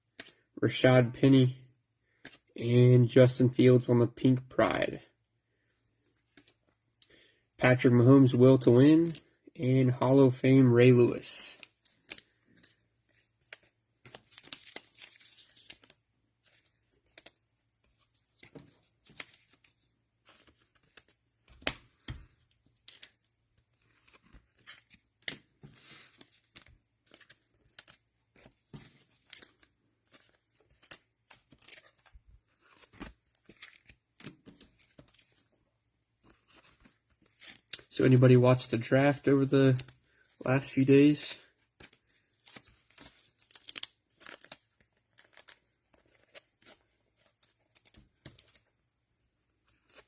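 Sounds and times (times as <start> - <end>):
cards and plastic wrappers rustling: 1.4 - 2.6, 5.9 - 7.3, 11.1 - 48.8, 49.5 - 50.0.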